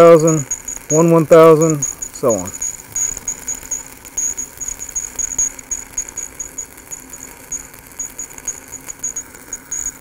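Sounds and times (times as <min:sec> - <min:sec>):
welding arc crackling and popping: 0:00.0 - 0:10.0.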